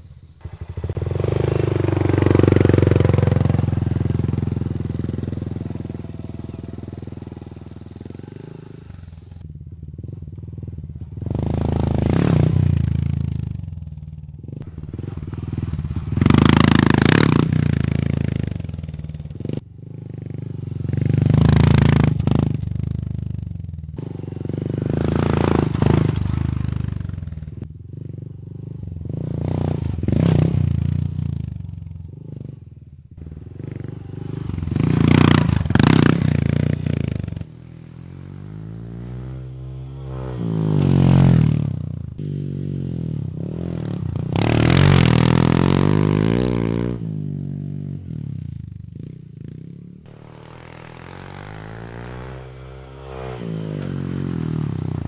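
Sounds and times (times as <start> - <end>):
motorcycle engine revving: 0.3 - 55.0.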